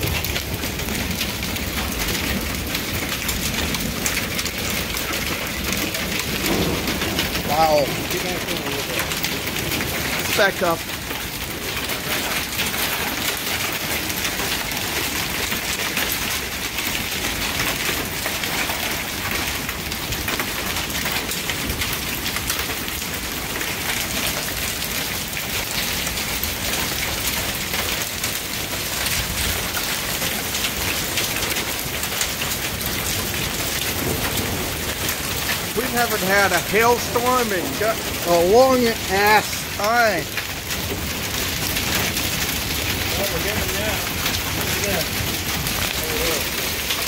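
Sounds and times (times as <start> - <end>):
heavy rain with hail: 0.0 - 47.0.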